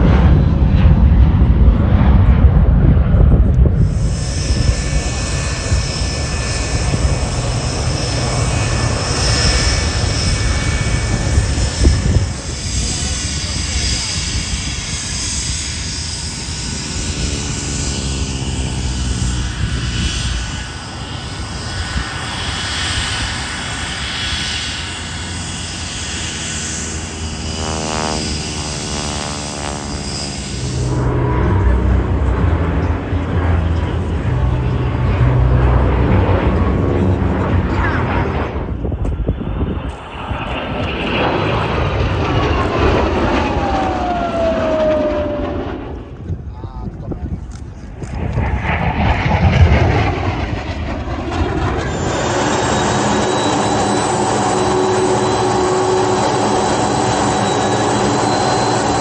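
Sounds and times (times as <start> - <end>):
aircraft flying past: 0.0 - 59.0
airplane engine in flight: 0.0 - 59.0.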